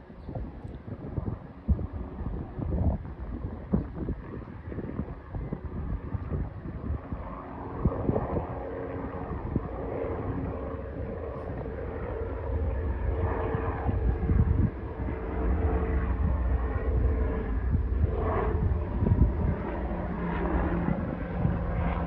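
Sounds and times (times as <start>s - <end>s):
distant helicopter hum: 0.0s - 22.0s
wind on microphone: 0.0s - 22.0s.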